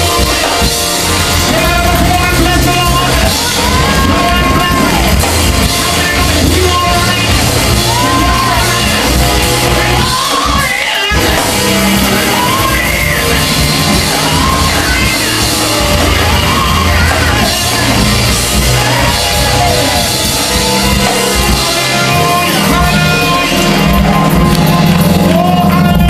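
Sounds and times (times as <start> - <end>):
keyboard accompaniment: 0.0 - 26.0
person singing loudly: 1.4 - 26.0.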